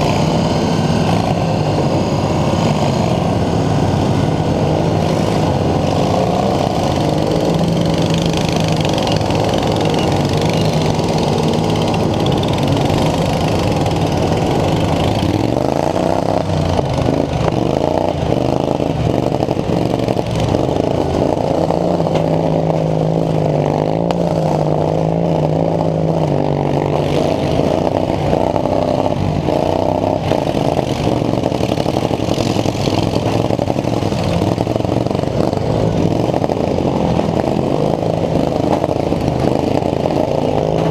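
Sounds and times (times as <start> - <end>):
lawn mower engines revving: 0.0 - 40.9.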